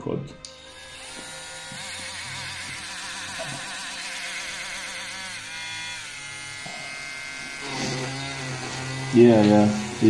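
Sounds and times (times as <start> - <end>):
rotary tool motor whining: 0.5 - 10.0.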